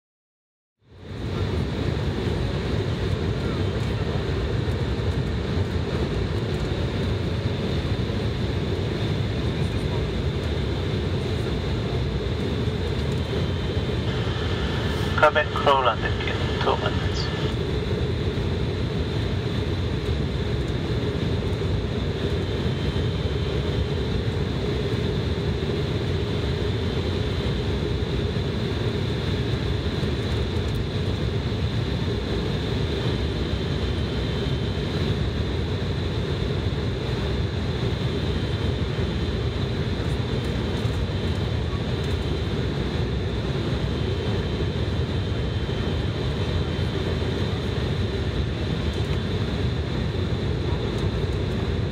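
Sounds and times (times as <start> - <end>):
turbofan engine drone: 0.8 - 51.9.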